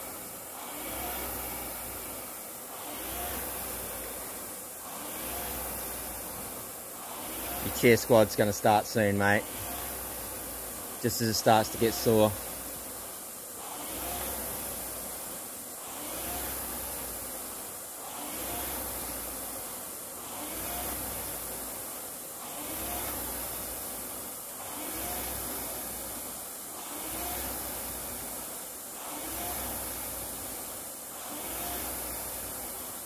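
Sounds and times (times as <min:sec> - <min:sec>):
rowing machine fan whirring: 0:00.0 - 0:33.0.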